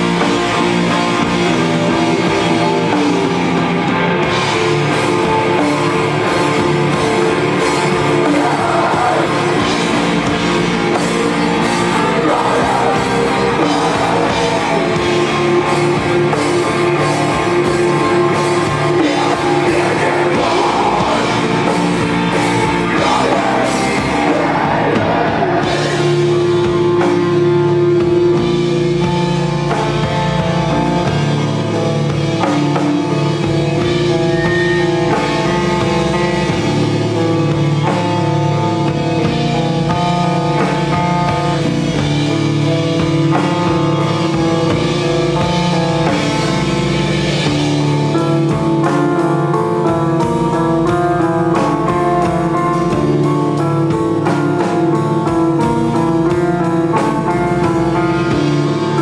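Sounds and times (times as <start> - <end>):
drum kit playing: 0.0 - 59.0
electric guitar: 0.0 - 59.0.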